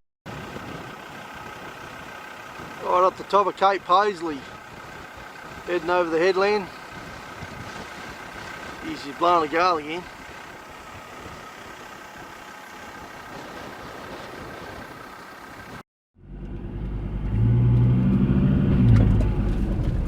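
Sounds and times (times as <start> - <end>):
vehicle engine under load: 0.3 - 20.0.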